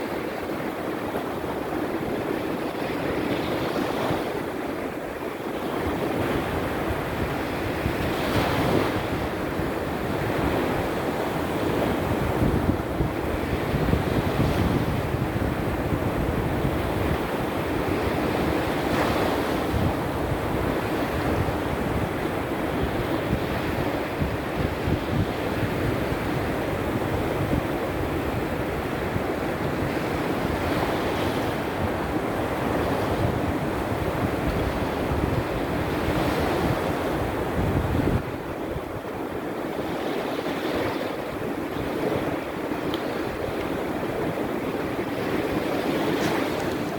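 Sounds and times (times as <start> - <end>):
waves breaking on shore: 0.0 - 46.9
wind buffeting microphone: 0.0 - 46.9.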